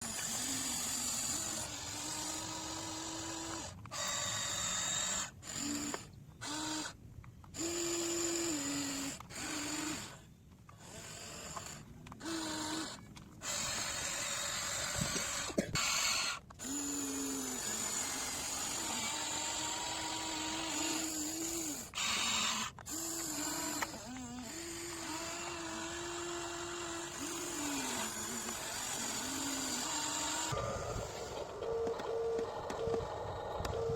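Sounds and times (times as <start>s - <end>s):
electric motor and pump whining: 0.0s - 33.9s.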